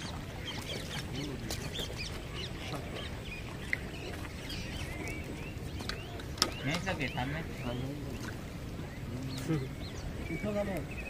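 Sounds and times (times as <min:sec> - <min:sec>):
birds chirping: 0:00.0 - 0:11.0
lower bird calls: 0:00.0 - 0:11.0.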